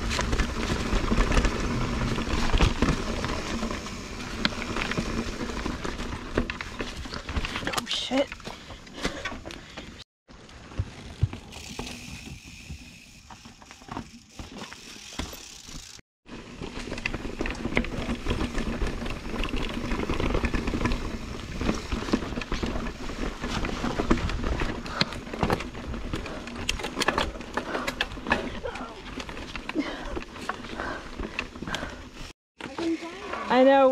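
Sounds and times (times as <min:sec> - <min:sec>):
mountain bike rattling over rocks: 0:00.0 - 0:33.9.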